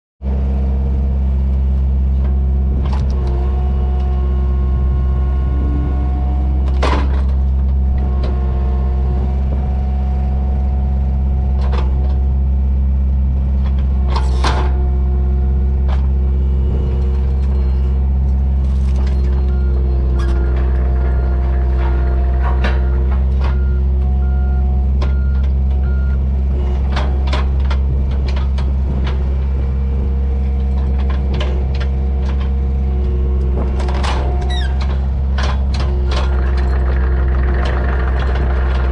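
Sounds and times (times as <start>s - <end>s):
diesel engine running: 0.2s - 38.9s
hydraulic whine: 2.2s - 12.5s, 13.9s - 38.9s.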